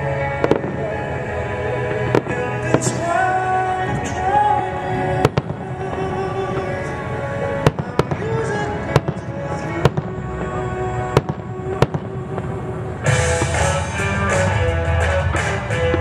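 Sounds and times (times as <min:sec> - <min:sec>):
background music: 0:00.0 - 0:16.0
fireworks bangs: 0:00.0 - 0:16.0.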